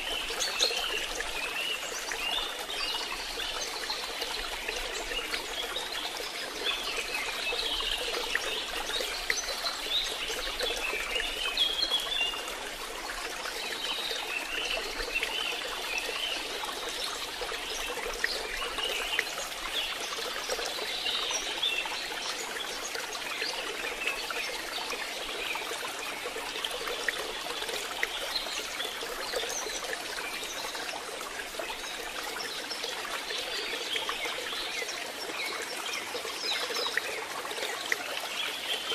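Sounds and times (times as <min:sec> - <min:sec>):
trickling pouring water: 0:00.0 - 0:38.9.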